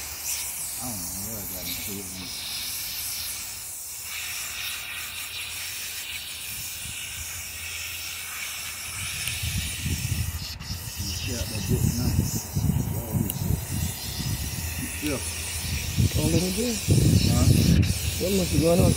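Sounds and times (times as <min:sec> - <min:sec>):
water spraying from hose nozzle: 0:00.0 - 0:18.9.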